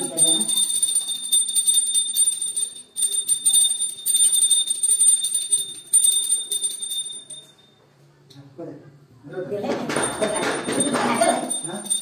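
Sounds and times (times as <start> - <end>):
hand bell ringing rapidly: 0.0 - 7.7, 9.9 - 12.0.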